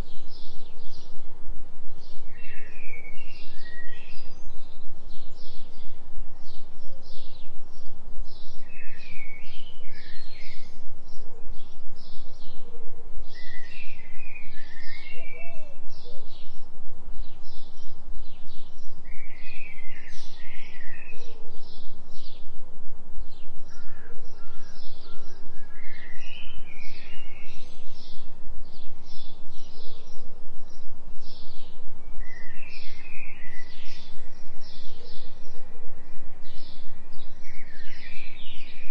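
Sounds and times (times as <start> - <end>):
birds chirping and warbling: 0.0 - 38.9
pulsing low binaural tone: 0.0 - 38.9.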